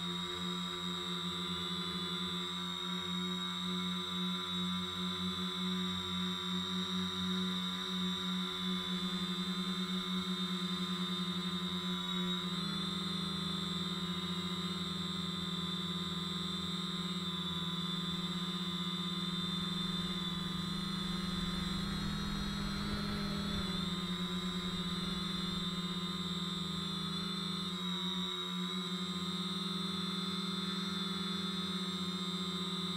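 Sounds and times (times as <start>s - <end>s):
quadcopter motors humming: 0.0s - 32.9s.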